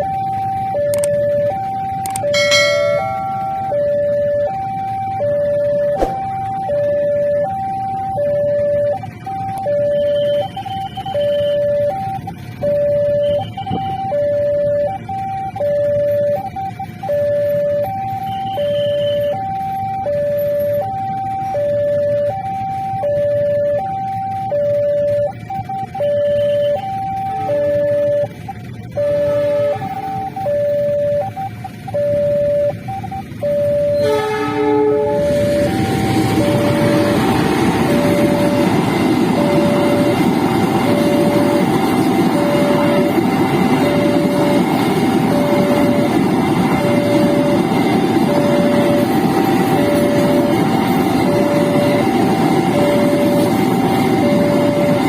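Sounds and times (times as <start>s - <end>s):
two-tone crossing alarm: 0.0s - 55.0s.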